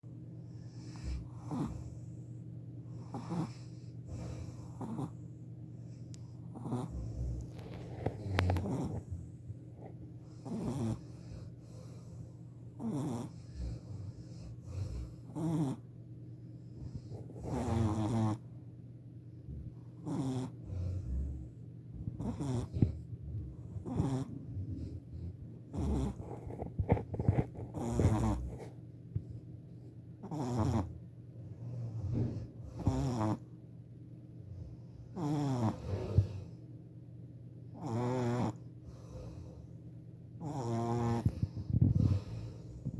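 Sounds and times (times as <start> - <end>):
puppy breathing: 0.4 - 18.5, 19.5 - 33.5, 34.5 - 36.8, 37.8 - 42.9
puppy snoring: 0.4 - 18.6, 19.4 - 33.6, 34.4 - 36.7, 37.7 - 42.9.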